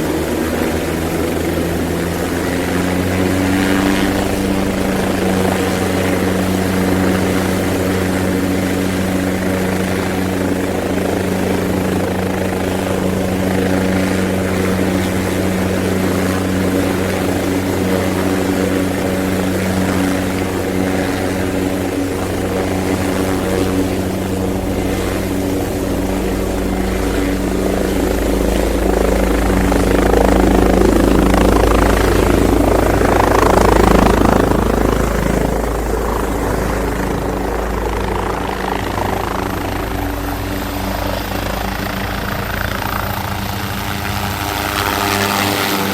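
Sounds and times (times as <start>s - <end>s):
helicopter running: 0.0s - 45.9s.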